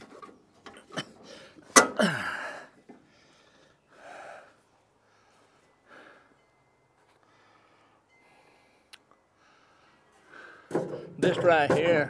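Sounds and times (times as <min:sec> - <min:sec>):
man breathing heavily: 0:01.2 - 0:11.2.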